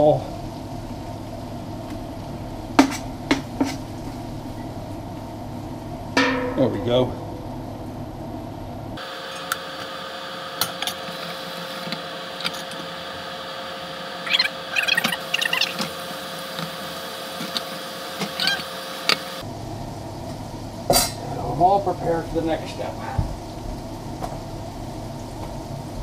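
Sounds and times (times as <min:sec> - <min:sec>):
thin steady hum: 0:00.0 - 0:21.2.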